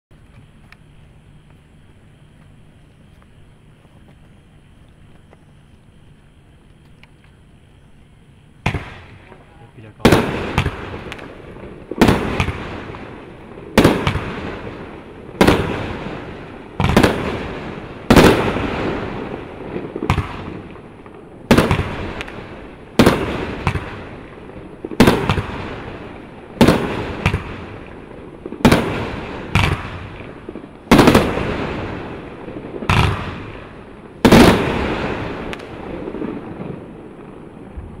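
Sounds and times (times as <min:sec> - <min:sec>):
firework aerial bursts: 0:00.2 - 0:38.0.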